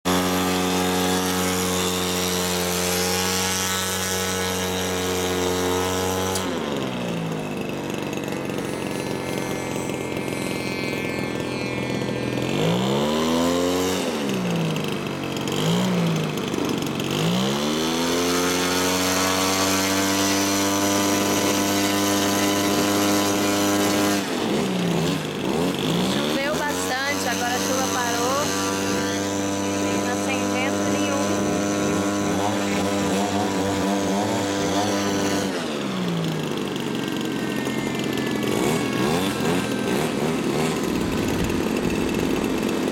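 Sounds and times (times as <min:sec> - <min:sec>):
model airplane motor running: 0:00.0 - 0:42.9.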